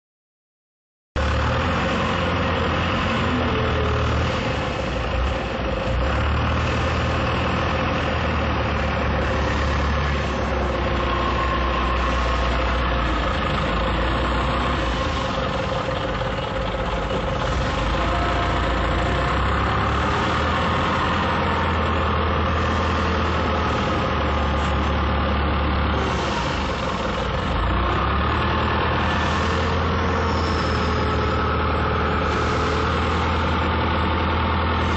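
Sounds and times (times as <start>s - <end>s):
forklift engine rumbling: 1.2s - 34.9s.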